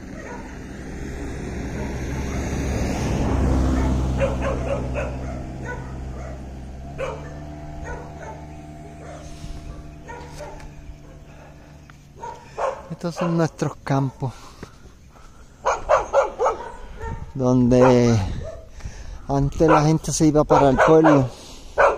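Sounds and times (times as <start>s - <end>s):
vehicle engine rumble: 0.0s - 21.9s
dog barking: 0.1s - 0.6s, 1.7s - 2.6s, 3.3s - 14.2s, 15.6s - 18.7s, 19.6s - 21.9s.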